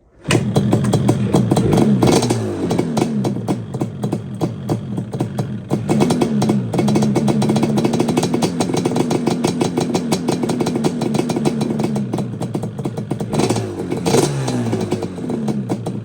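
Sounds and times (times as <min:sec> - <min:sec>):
two-stroke engine crackling: 0:00.2 - 0:16.0.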